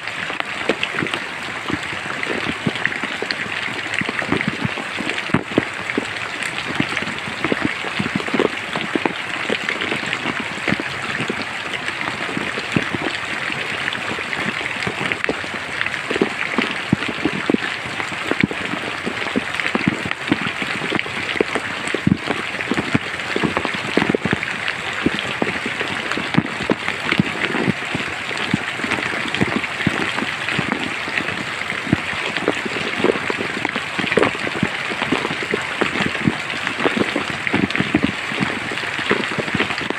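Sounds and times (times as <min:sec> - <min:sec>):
large raindrops striking: 0:00.0 - 0:39.9
rain falling in forest: 0:00.0 - 0:39.9.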